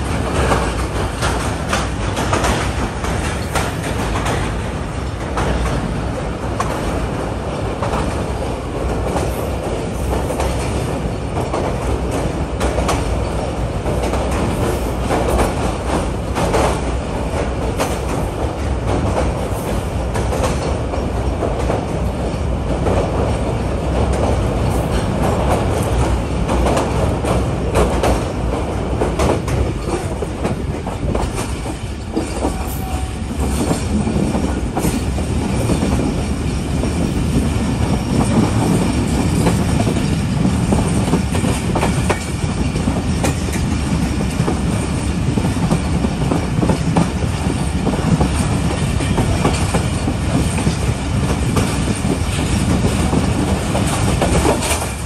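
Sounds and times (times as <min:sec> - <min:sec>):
clatter over rail joints: 0:00.0 - 0:55.0
train wheels rumbling on rails: 0:00.0 - 0:55.0.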